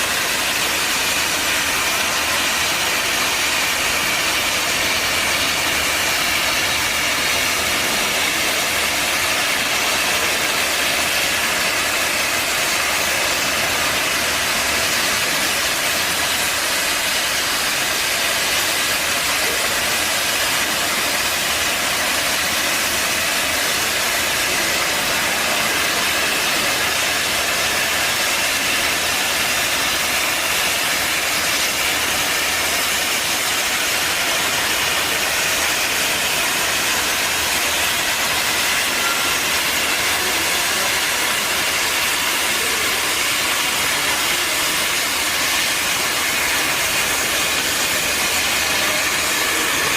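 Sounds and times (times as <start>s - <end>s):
plasma torch cutting metal: 0.0s - 49.9s.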